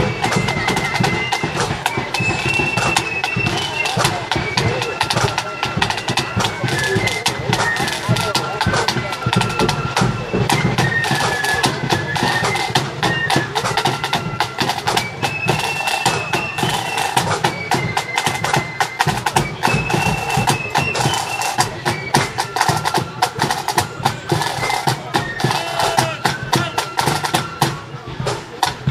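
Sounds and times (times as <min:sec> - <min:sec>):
fast snare drumming: 0:00.0 - 0:28.9
shrill flutes melody: 0:00.0 - 0:28.9.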